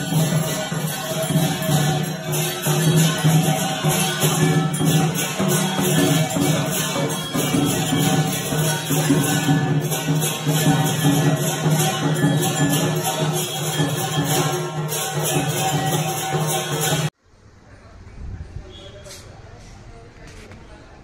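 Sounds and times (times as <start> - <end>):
jingling shaker percussion: 0.0 - 17.2.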